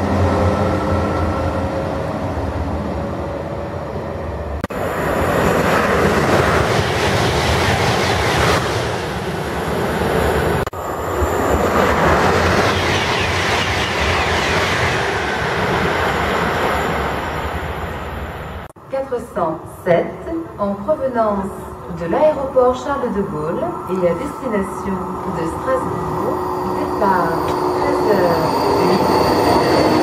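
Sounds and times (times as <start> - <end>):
high-speed train rushing past: 0.0 - 18.8, 19.9 - 30.0.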